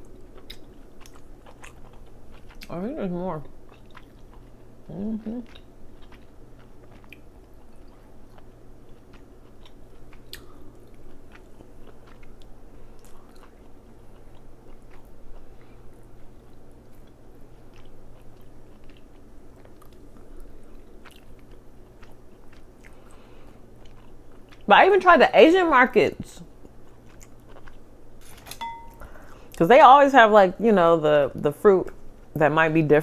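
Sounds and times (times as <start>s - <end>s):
close-up chewing: 0.0s - 24.7s, 26.4s - 29.6s
low background hum: 0.0s - 33.0s.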